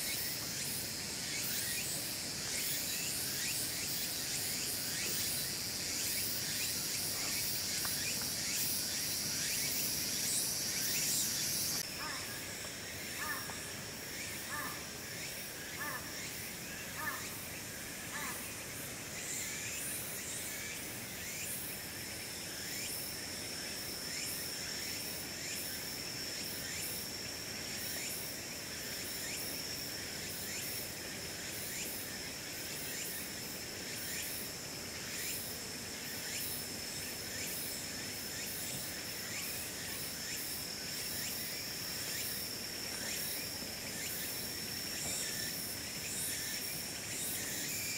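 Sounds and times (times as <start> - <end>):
rapid short insect chirps: 0.0 - 27.1, 27.7 - 47.9
high-pitched insect drone: 0.0 - 47.9.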